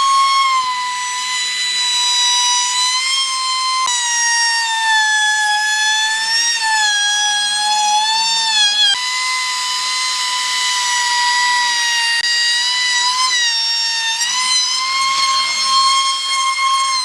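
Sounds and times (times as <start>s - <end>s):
power tool whine: 0.0s - 17.0s.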